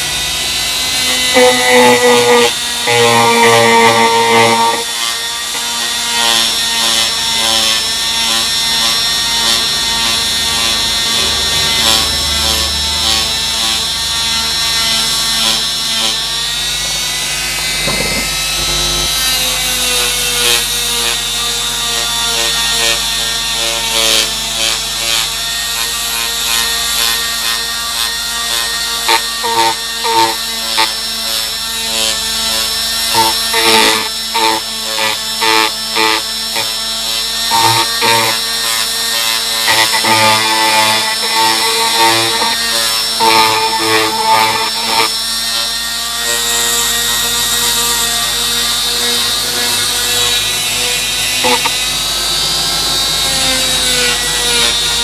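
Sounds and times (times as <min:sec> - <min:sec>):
rotary tool sanding metal: 0:00.0 - 0:55.0.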